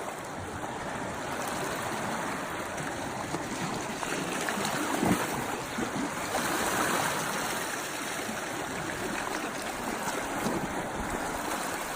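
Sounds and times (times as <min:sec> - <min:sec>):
sea water splashing among rocks: 0:00.0 - 0:11.9.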